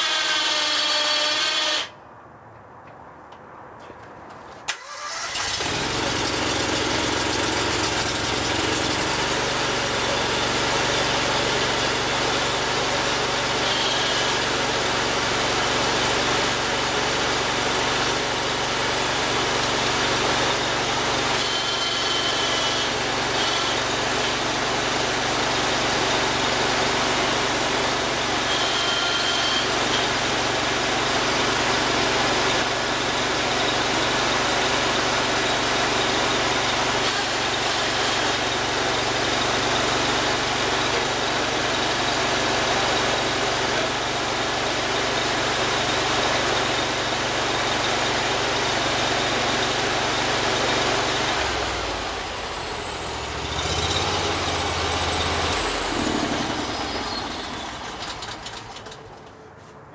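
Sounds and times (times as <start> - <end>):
sawmill engine running: 0.0 - 1.9, 4.7 - 59.6.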